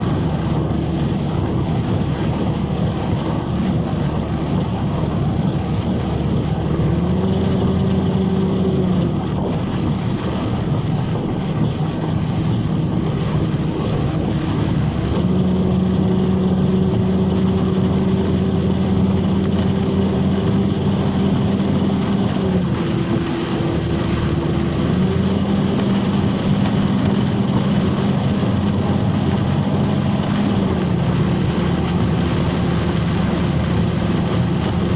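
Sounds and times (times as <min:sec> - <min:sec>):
road noise: 0:00.0 - 0:34.9
vehicle engine drone: 0:00.0 - 0:34.9.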